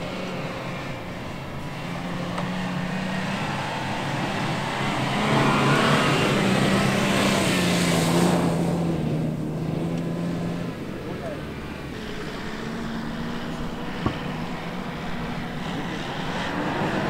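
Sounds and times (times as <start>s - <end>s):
engine working under throttle: 0.0s - 17.0s
spinning tyres hissing in sand: 0.0s - 17.0s.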